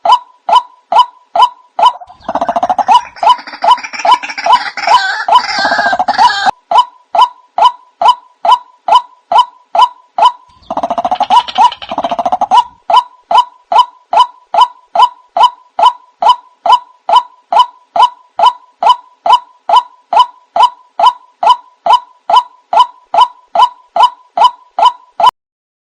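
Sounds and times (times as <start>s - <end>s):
waterhen calls: 0.0s - 25.3s.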